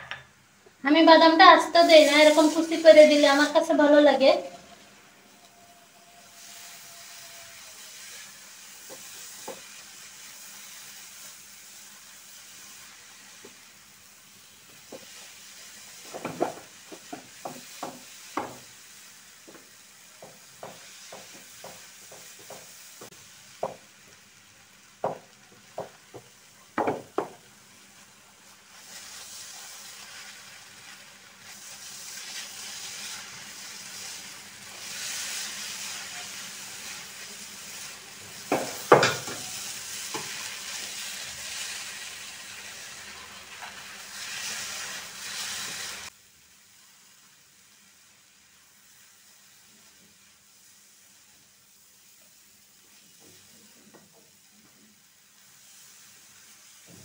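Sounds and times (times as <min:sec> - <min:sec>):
noodles sizzling: 0:00.0 - 0:57.0.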